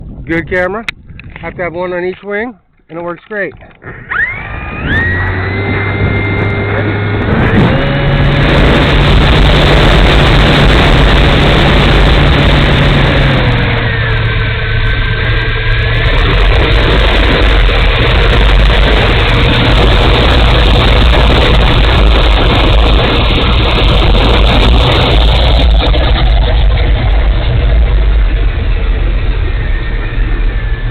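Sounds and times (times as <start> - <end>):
wind rumble on microphone: 0.0 - 30.9
electric motor and propeller whine: 3.5 - 30.9.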